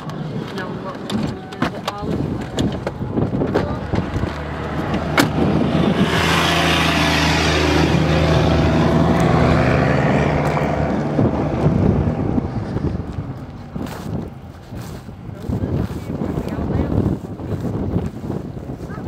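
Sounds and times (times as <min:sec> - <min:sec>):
road noise: 0:00.0 - 0:19.0
vehicle engine running: 0:00.0 - 0:19.0.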